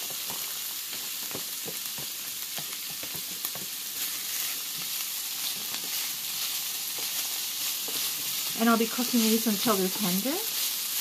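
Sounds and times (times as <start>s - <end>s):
vegetables sizzling in a frying pan: 0.0s - 11.0s
wooden spoon stirring and scraping: 0.0s - 11.0s.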